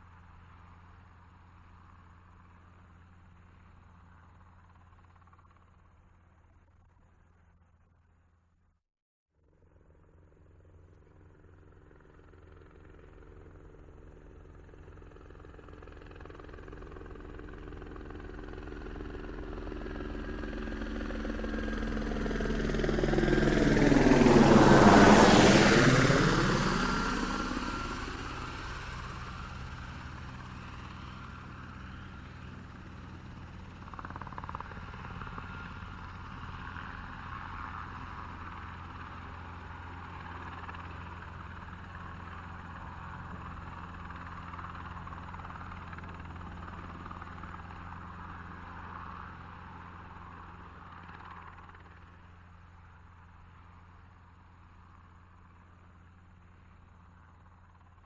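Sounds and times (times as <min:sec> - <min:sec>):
helicopter passing overhead: 0:00.0 - 0:08.3, 0:09.4 - 0:58.0.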